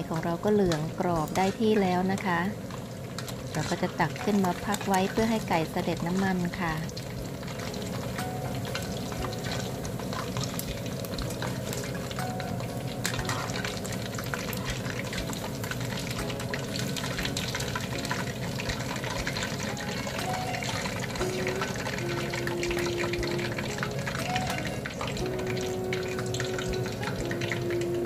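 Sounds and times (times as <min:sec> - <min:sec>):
wings deep-frying in hot oil: 0:00.0 - 0:28.0.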